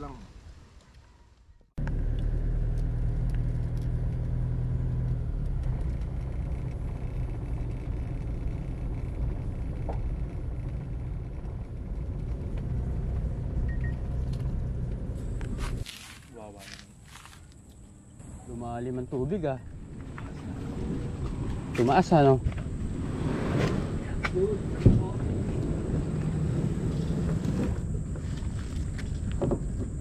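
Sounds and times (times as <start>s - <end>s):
car engine and road rumble: 1.8s - 30.0s.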